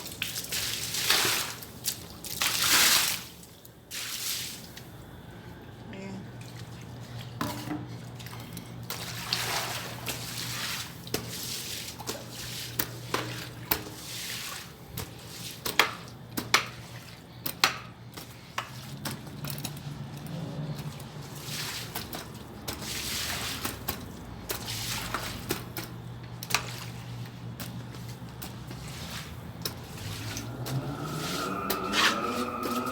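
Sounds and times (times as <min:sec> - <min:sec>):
hose water splashing on pavement: 0:00.0 - 0:05.1, 0:06.3 - 0:32.9.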